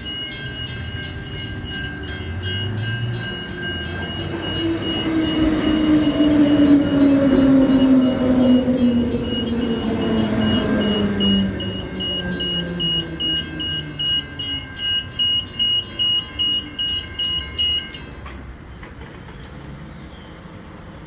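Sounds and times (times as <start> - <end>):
crossing warning bell dinging: 0.0 - 19.2.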